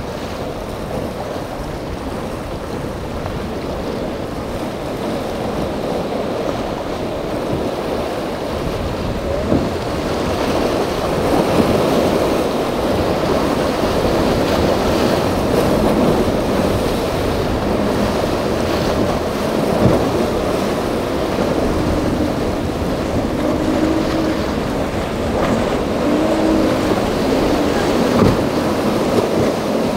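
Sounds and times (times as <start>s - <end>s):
choppy water rushing: 0.0s - 29.9s
outboard motor running: 0.0s - 29.9s
wind buffeting microphone: 0.0s - 29.9s.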